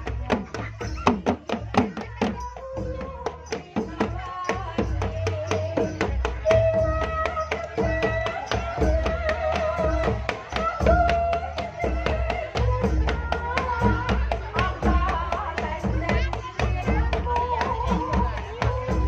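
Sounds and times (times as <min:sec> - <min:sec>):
drum strokes in quick rhythm: 0:00.0 - 0:19.0.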